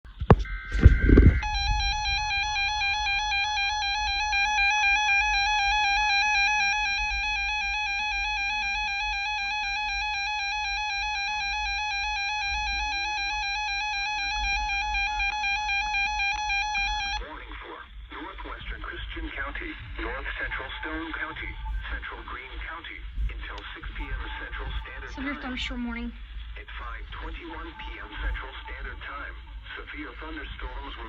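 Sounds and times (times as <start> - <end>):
steady attention tone: 0.3 - 17.3, 18.4 - 31.0.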